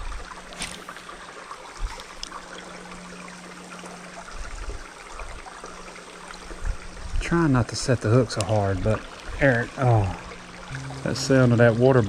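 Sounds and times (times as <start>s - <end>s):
creek water babbling: 0.0s - 12.0s.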